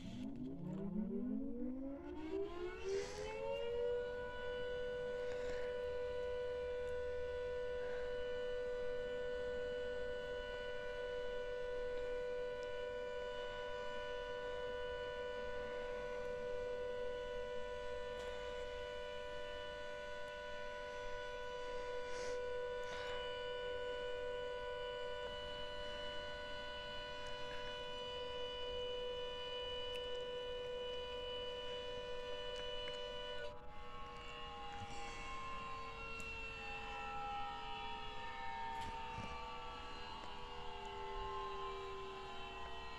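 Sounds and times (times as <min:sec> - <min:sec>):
two-tone siren: 0:00.0 - 0:42.9.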